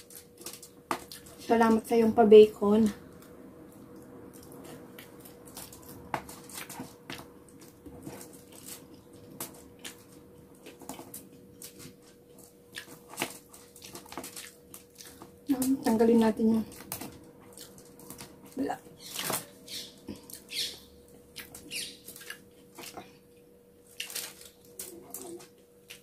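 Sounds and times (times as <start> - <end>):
person chewing: 0.0 - 1.4, 3.1 - 15.5, 16.7 - 26.0
faint steady hum: 0.0 - 26.0.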